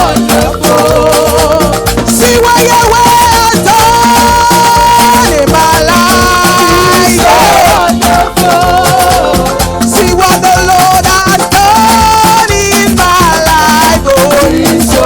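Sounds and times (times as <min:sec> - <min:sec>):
upbeat praise band music: 0:00.0 - 0:15.0.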